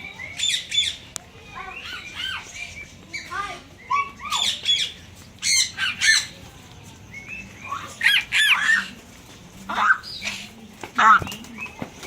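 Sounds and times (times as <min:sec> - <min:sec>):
birds calling harshly: 0:00.0 - 0:12.0.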